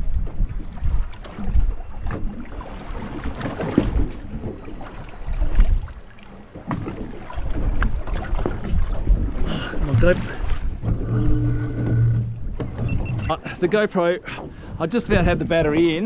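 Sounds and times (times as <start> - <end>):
wind buffeting microphone: 0.0 - 6.0, 6.6 - 16.0
water lapping against boat hull: 0.0 - 16.0.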